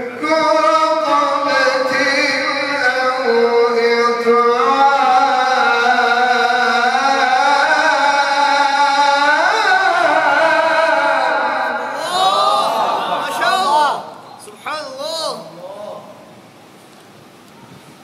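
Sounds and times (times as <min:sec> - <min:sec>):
man reciting melodically: 0:00.0 - 0:16.2.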